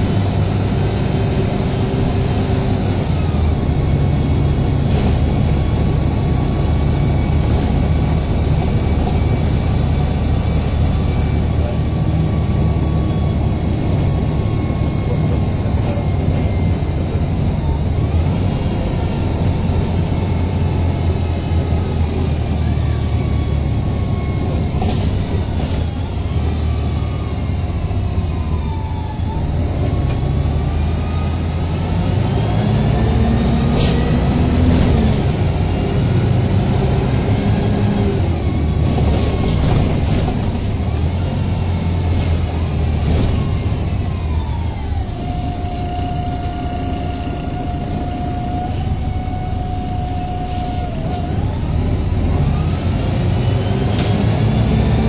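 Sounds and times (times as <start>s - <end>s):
bus diesel engine drone: 0.0s - 55.0s
drivetrain whine: 0.0s - 55.0s.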